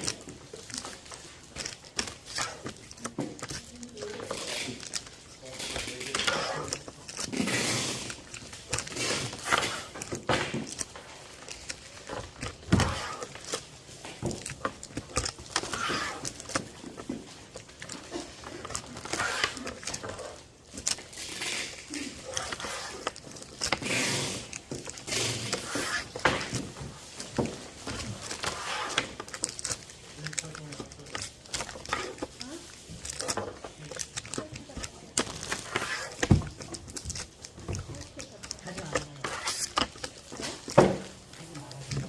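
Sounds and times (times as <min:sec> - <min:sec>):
plastic markers clicking and rustling: 0:00.0 - 0:42.0.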